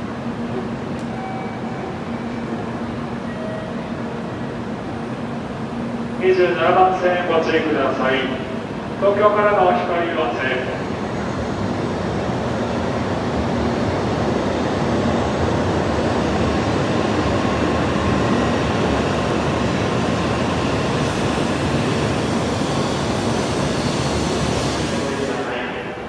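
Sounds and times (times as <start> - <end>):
train rumbling and rushing: 0.0 - 26.0.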